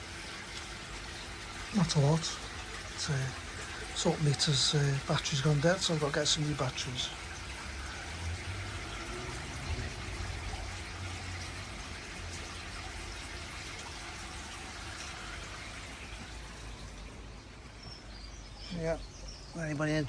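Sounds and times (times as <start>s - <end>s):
water pouring into a pond: 0.0s - 20.0s.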